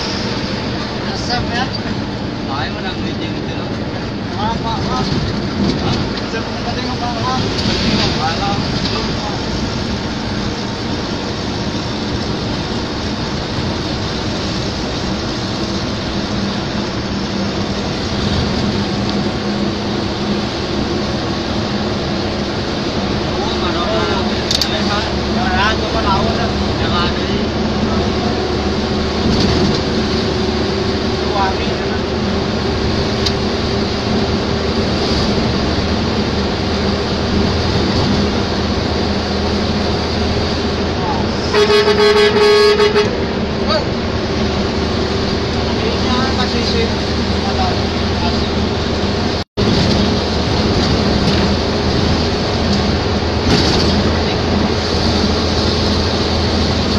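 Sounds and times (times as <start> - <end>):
road noise inside vehicle: 0.0 - 56.9
vehicle engine drone: 0.0 - 56.9.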